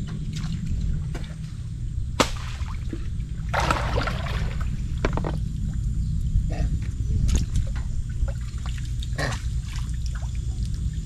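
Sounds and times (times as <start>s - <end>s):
water sloshing and splashing: 0.0s - 5.8s, 7.3s - 11.0s
steady low rumble: 0.0s - 11.0s.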